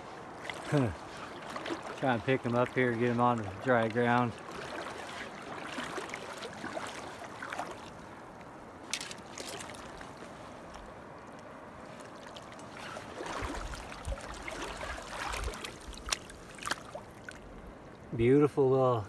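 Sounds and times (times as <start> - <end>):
creek water trickling over rocks: 0.0 - 18.3.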